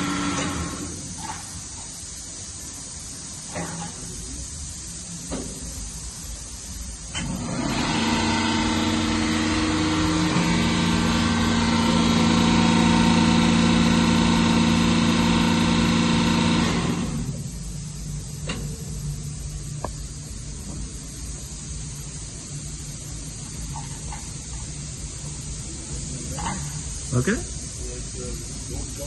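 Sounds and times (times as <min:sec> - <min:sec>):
moulder machine whine and hiss: 0:00.0 - 0:29.0.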